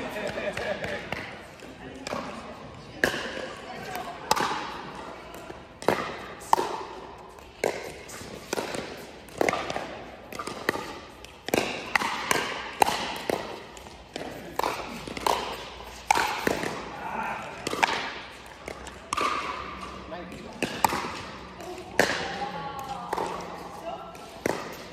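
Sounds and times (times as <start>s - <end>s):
ball bouncing on court: 0.0s - 16.9s, 17.6s - 24.9s.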